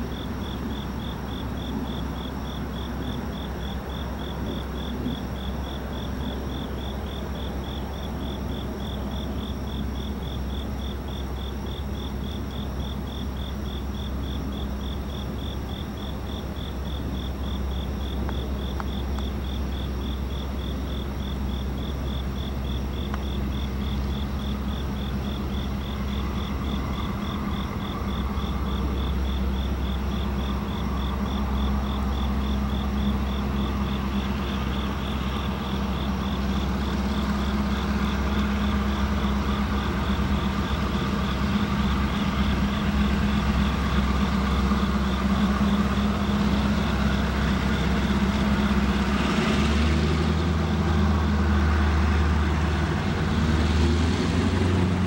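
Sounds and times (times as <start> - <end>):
crickets chirping: 0.0 - 55.0
diesel locomotive engines droning: 0.0 - 55.0.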